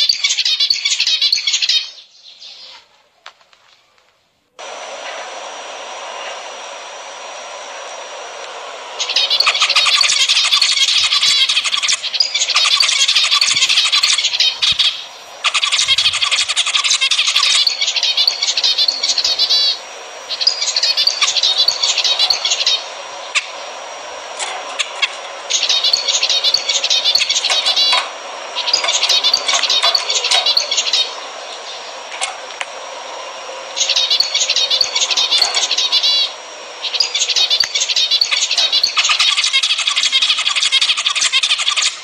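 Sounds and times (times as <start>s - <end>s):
finches singing: 0.0s - 2.9s, 8.8s - 42.0s.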